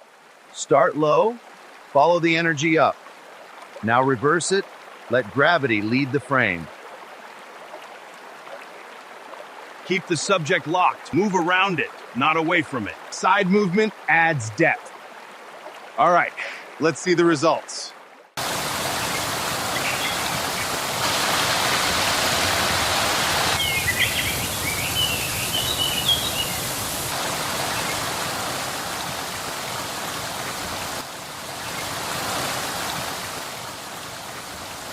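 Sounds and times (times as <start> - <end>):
waterfall rushing and splashing: 0.0 - 34.9.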